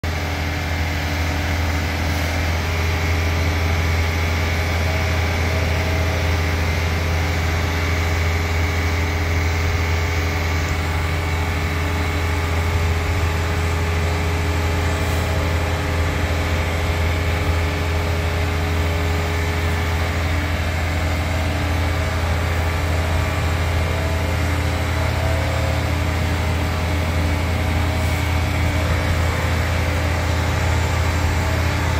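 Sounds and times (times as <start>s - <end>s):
engine idling drone: 0.0s - 31.9s.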